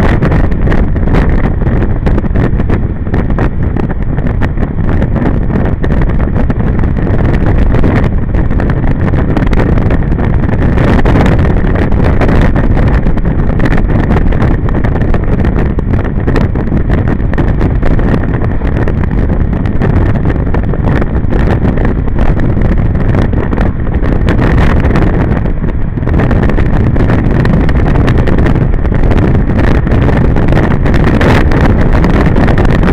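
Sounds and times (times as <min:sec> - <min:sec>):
wind rumble on microphone: 0:00.0 - 0:32.9.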